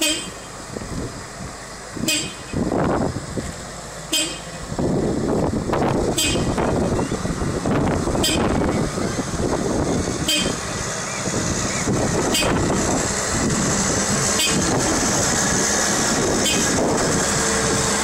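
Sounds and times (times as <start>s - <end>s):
backhoe loader engine running: 0.0s - 18.0s.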